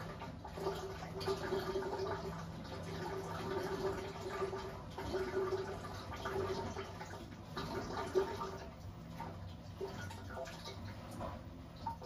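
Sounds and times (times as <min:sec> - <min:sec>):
washing machine motor hum: 0:00.0 - 0:12.0
water sloshing in washing machine: 0:00.0 - 0:12.0.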